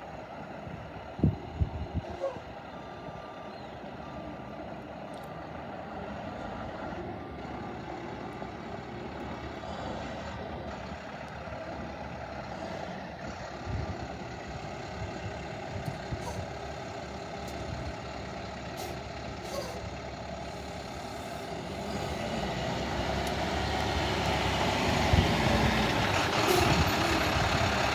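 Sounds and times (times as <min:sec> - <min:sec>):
truck engine running: 0:00.0 - 0:27.9.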